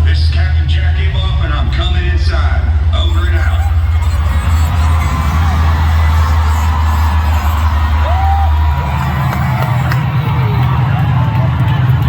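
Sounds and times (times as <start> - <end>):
deep steady rumble: 0.0 - 12.0
music over arena sound system: 0.0 - 12.0.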